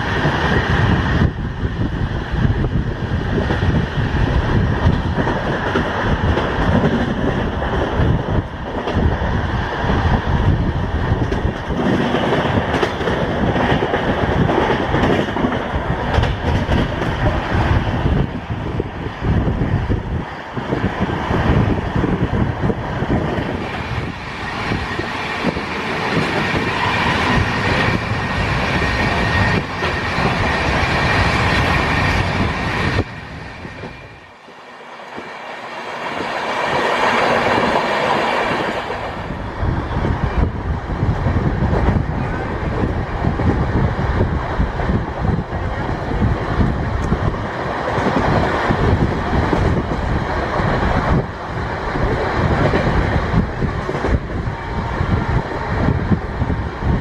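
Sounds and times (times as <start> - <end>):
train wheels rumbling clickety-clack: 0.0 - 35.4, 36.0 - 57.0.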